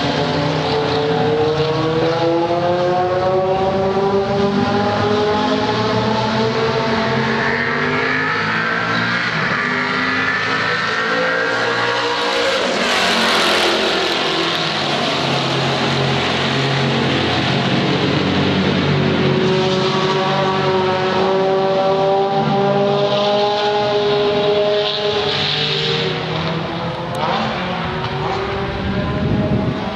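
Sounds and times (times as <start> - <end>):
racing car engines: 0.0 - 29.9.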